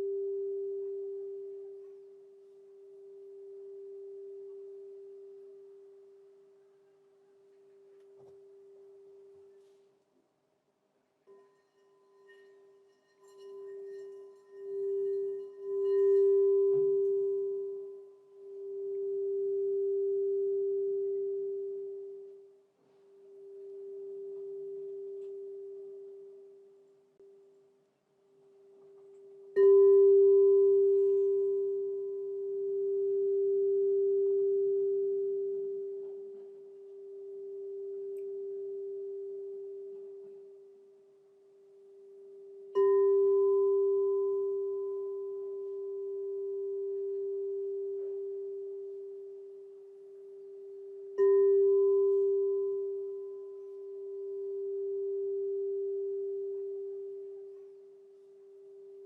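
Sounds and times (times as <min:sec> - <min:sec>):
crystal singing bowl ringing: 0:00.0 - 0:06.6, 0:11.2 - 0:27.4, 0:28.7 - 0:59.0.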